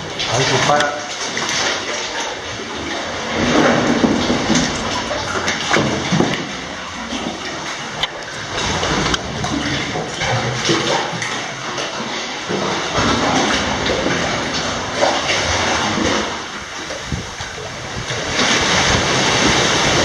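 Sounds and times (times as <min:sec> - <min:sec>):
sea waves surging and sloshing: 0:00.0 - 0:20.0.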